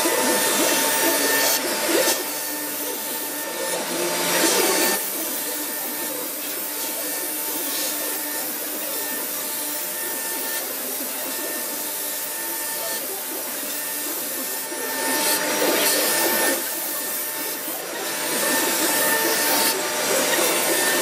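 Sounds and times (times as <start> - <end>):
cutter hissing in wood: 0.0 - 21.0
router spindle whine: 0.0 - 21.0.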